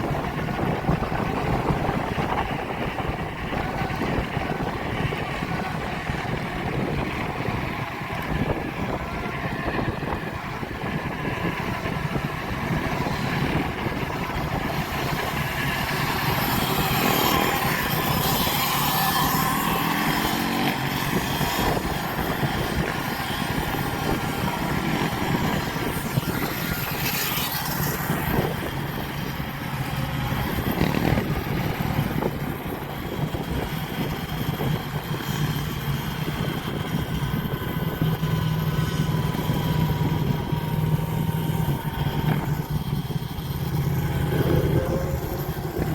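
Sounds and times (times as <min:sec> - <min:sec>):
motorbike engines running: 0:00.0 - 0:45.9.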